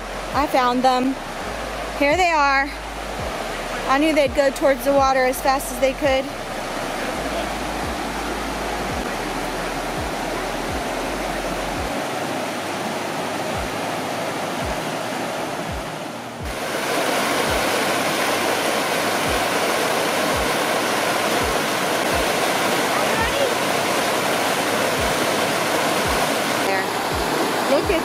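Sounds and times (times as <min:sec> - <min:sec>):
rapids rushing over rock: 0:00.0 - 0:28.0.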